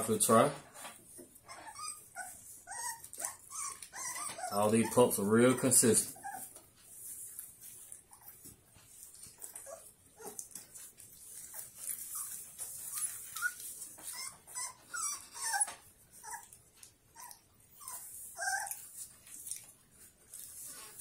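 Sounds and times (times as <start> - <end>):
puppy whimpering: 1.2 - 6.6, 8.1 - 19.6.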